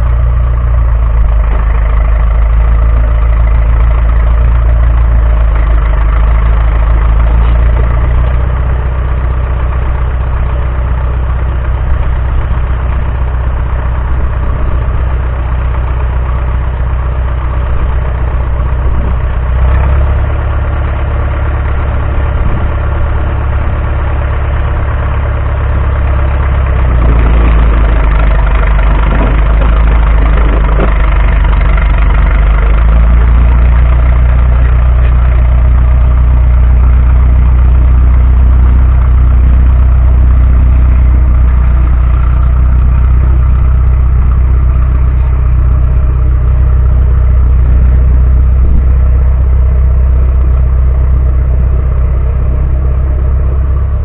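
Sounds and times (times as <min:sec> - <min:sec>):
heavy engine idling: 0:00.0 - 0:54.0.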